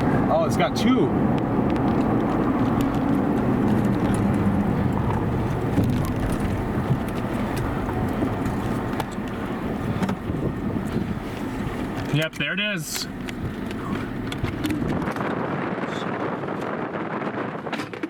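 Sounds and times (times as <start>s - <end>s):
vehicle rumble from inside cabin: 0.0s - 17.4s.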